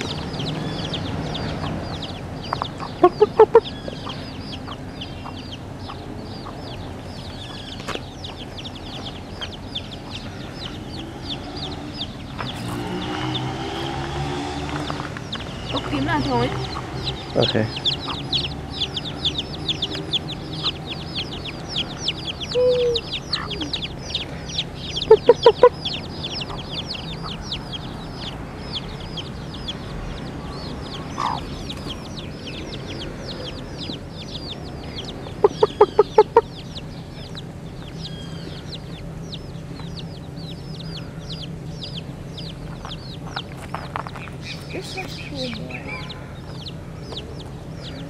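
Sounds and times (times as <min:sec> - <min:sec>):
hen clucking: 0:00.0 - 0:13.4, 0:14.8 - 0:48.0
chicks peeping: 0:00.0 - 0:48.0.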